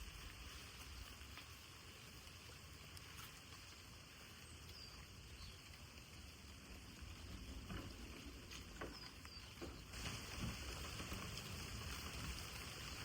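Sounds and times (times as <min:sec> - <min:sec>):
light rain falling: 0:00.0 - 0:13.0
raindrops ticking: 0:00.0 - 0:13.0.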